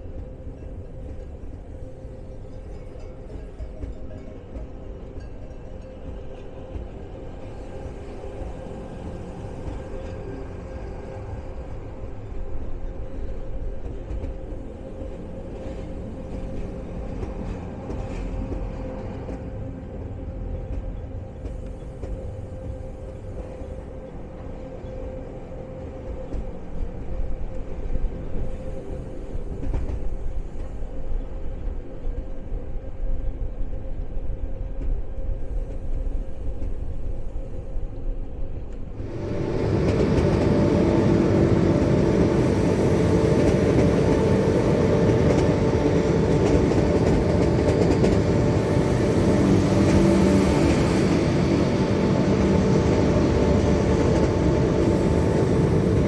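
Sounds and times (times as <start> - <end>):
train wheel rumble with whine: 0.0 - 56.0.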